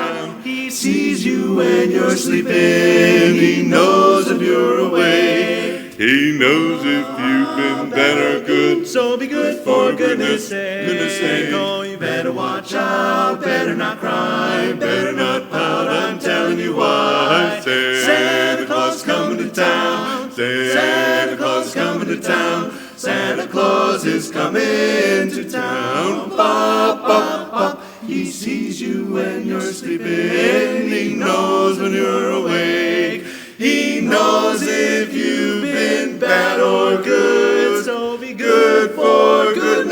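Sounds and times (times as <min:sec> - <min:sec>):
barbershop singers a cappella: 0:00.0 - 0:39.9.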